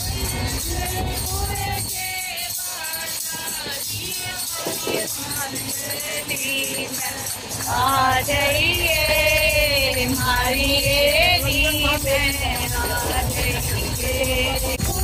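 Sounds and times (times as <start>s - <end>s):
jingling tambourine percussion: 0.0s - 15.0s.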